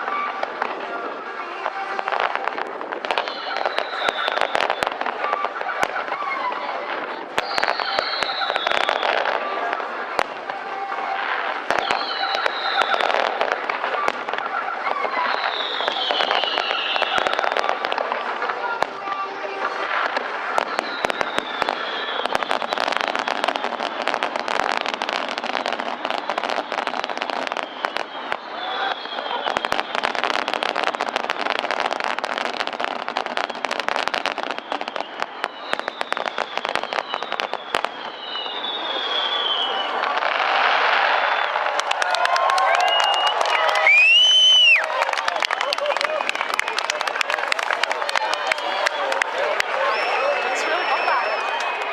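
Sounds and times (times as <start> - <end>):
fireworks crackling: 0.0 - 51.9
descending firework whistles: 2.1 - 9.9, 10.8 - 18.8, 19.7 - 51.9.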